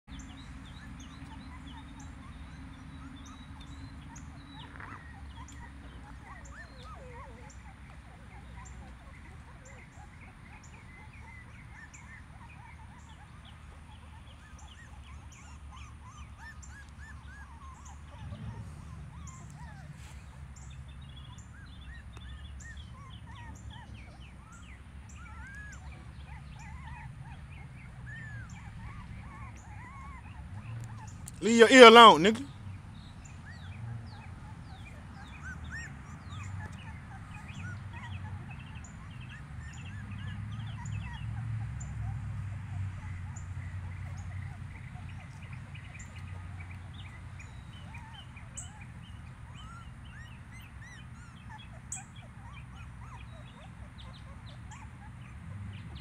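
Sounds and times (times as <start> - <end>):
small birds chirping: 0.1 - 56.0.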